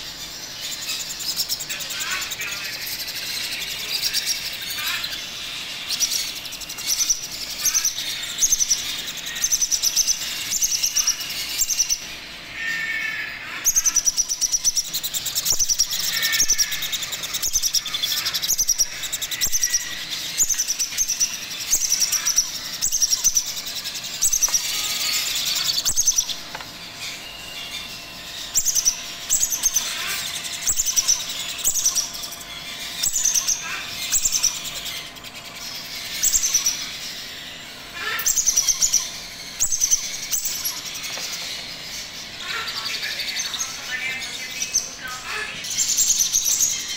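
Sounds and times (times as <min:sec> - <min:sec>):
macaw chicks begging calls: 0:00.0 - 0:46.9.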